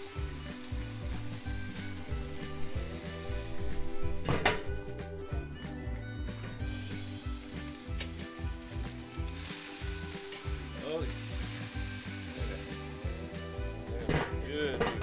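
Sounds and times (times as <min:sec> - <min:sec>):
background music: 0:00.0 - 0:15.0
steaks sizzling on a grill: 0:00.0 - 0:15.0.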